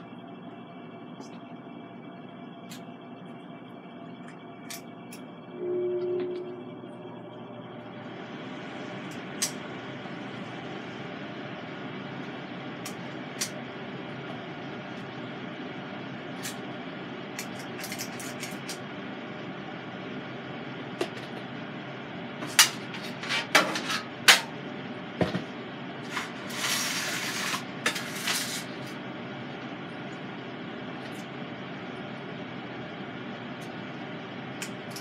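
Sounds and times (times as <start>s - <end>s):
air fryer fan hum: 0.0s - 35.0s.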